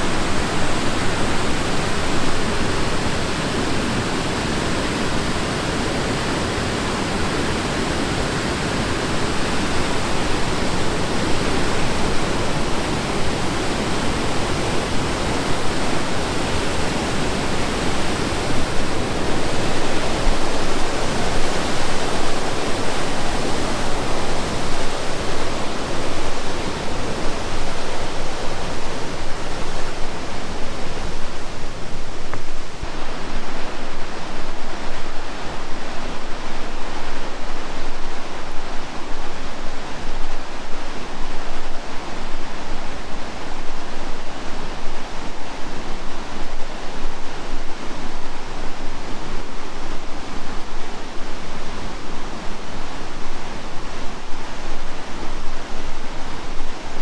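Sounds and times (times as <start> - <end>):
rushing river water: 0.0 - 57.0.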